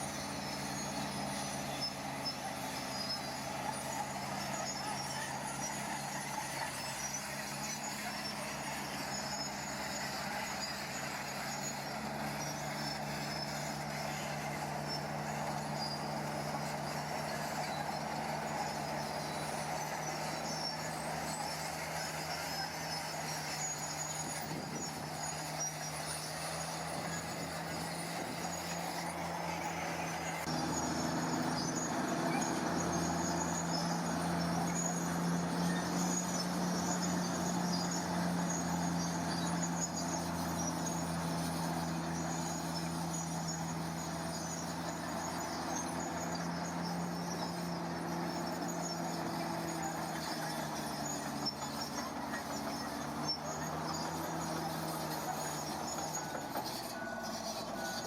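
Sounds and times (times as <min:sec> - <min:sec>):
heavy diesel machine engine running: 0:00.0 - 0:58.0.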